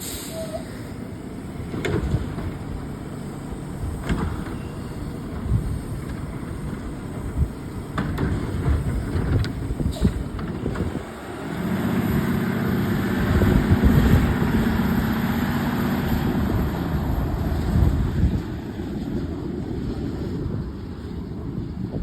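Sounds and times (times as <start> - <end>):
garbage truck engine running: 0.0 - 21.5.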